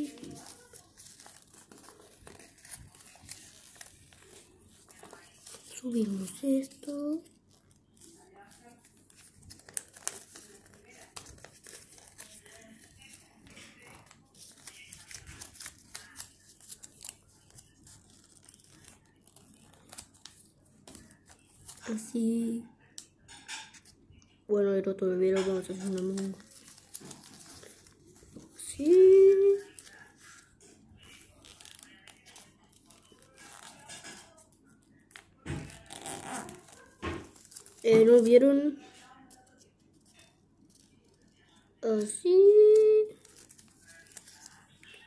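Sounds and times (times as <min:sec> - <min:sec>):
paper rustling and crinkling: 0:00.0 - 0:22.5, 0:25.2 - 0:45.0.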